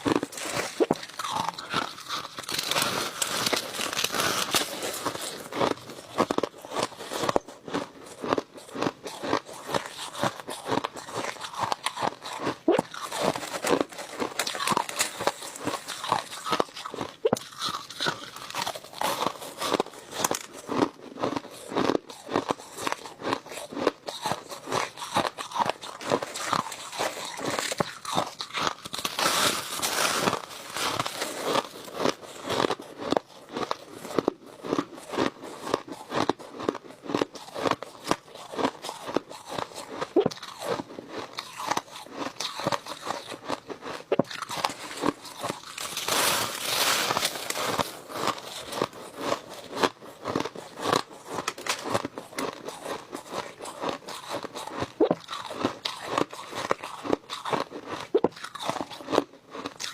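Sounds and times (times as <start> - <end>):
crunching ice between teeth: 0.0 - 59.9.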